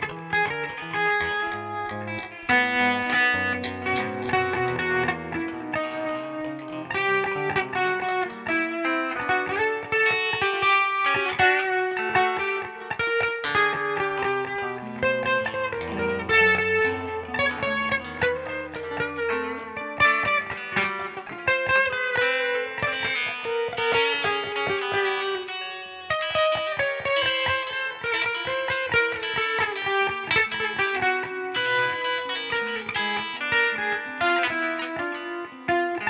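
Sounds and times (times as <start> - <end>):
guitar picking fast notes: 0.0 - 36.0.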